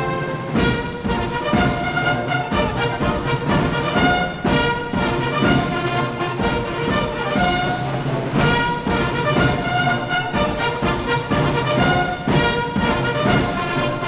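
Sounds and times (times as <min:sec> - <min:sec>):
bugles and trumpets: 0:00.0 - 0:14.0
drum and cymbal strokes: 0:00.0 - 0:14.0
military march band: 0:00.0 - 0:14.0.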